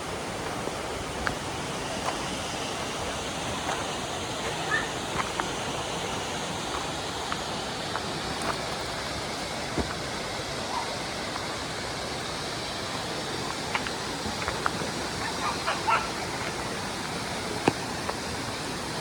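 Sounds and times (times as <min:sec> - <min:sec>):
rushing water roar: 0:00.0 - 0:19.0.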